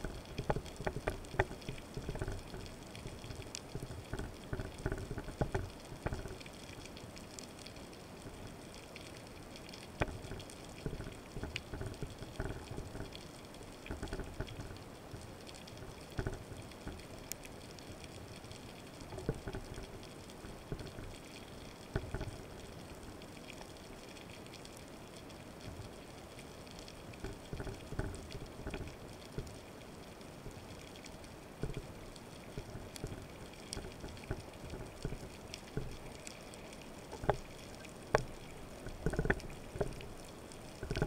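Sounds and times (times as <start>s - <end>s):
rushes of moving water: 0.0s - 41.0s.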